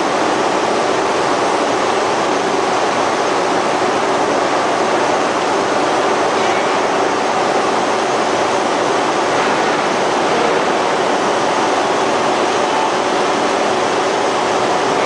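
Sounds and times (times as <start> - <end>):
forging machinery noise: 0.0 - 15.0.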